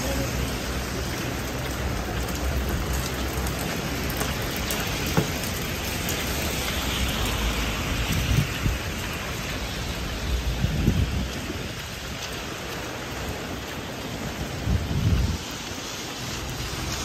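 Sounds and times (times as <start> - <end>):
heavy rain on street: 0.0 - 17.0.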